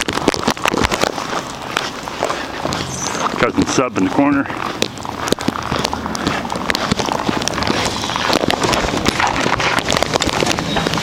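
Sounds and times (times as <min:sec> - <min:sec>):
footsteps crunching through snow: 0:00.0 - 0:11.0.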